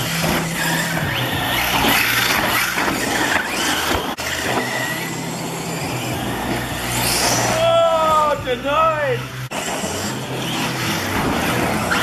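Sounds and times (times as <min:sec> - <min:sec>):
electric motor whine: 0:00.0 - 0:07.7, 0:08.3 - 0:12.0.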